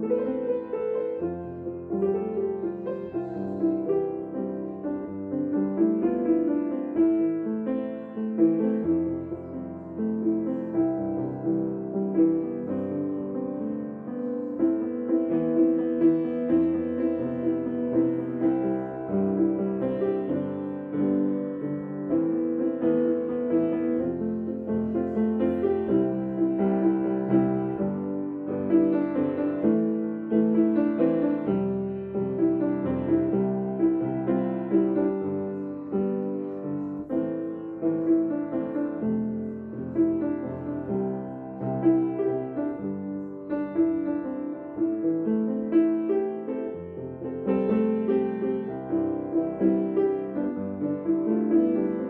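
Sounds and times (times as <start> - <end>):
gentle piano music: 0.0 - 52.0.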